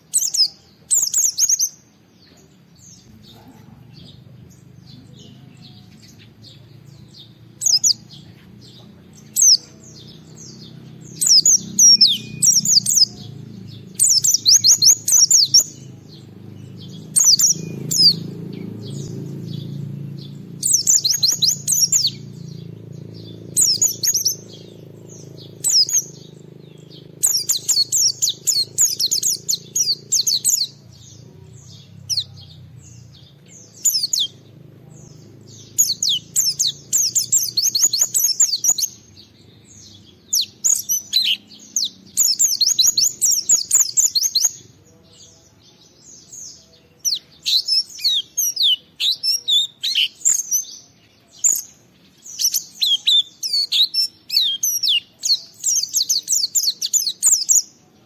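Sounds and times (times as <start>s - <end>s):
bird singing high twittering phrases: 0.0s - 58.0s.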